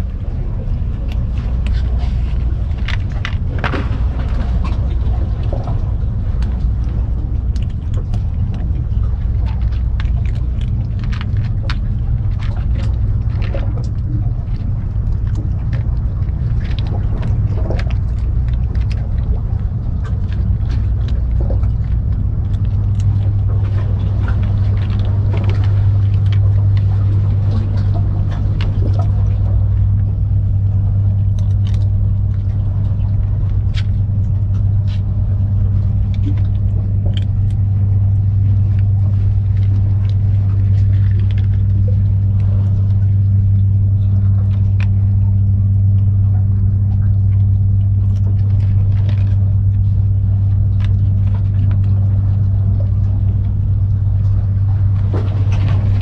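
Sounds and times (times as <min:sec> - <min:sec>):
kittens eating off a plate: 0:00.0 - 0:56.0
low mechanical hum: 0:00.0 - 0:56.0.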